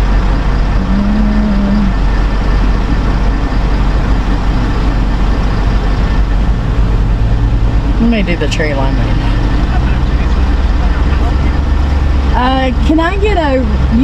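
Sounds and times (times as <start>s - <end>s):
car engine idling: 0.0s - 14.0s
low hum: 0.0s - 14.0s.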